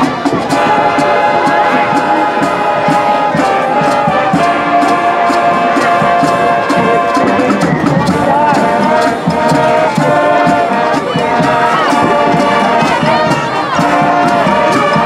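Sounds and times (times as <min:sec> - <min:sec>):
brass holding loud chords: 0:00.0 - 0:15.0
drums keeping steady beat: 0:00.0 - 0:15.0.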